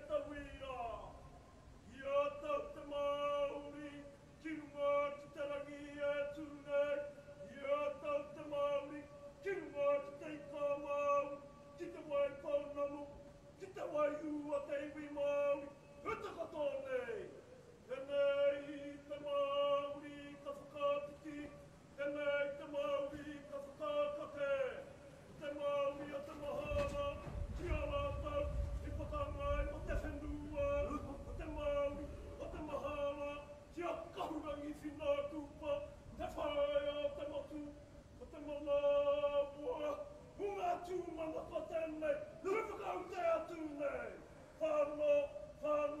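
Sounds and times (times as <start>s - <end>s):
person chanting: 0.0s - 46.0s.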